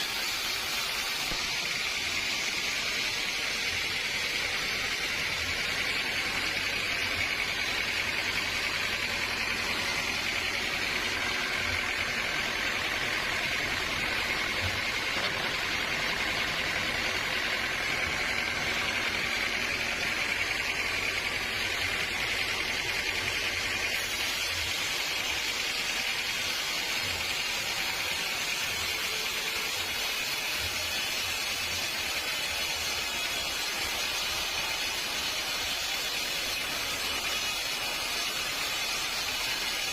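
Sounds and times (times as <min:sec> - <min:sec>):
sawmill machinery rushing: 0:00.0 - 0:39.9.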